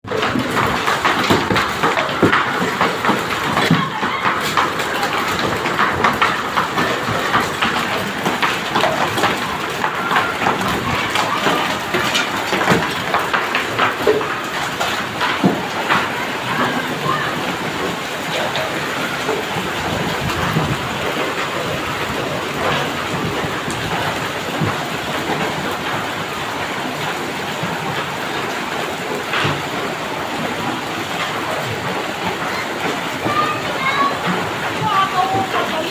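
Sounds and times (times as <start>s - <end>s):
hailstones tapping on surfaces: 0.0s - 35.9s
heavy rain hissing: 1.7s - 35.9s.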